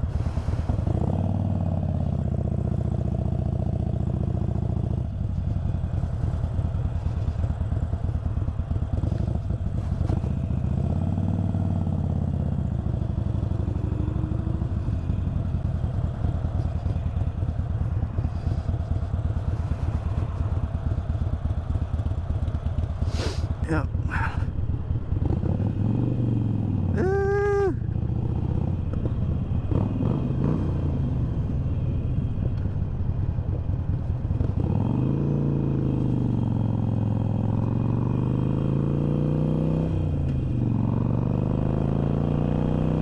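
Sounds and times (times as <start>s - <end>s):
motorcycle engine rumbling: 0.0s - 38.4s.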